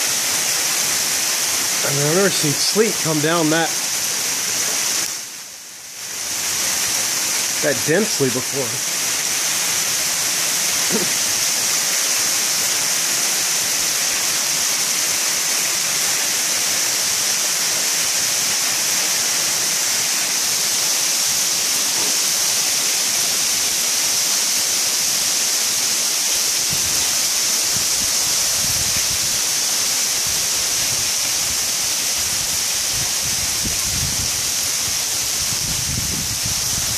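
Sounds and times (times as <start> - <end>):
sleet hissing on surfaces: 5.9 - 36.9.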